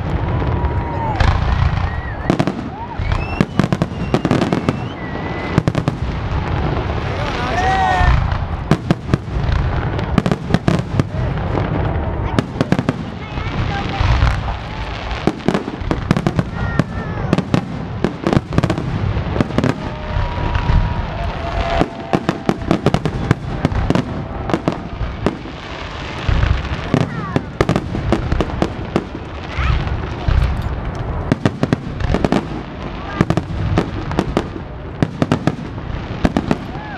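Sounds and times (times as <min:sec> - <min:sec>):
fireworks launching and bursting: 0:00.0 - 0:36.9.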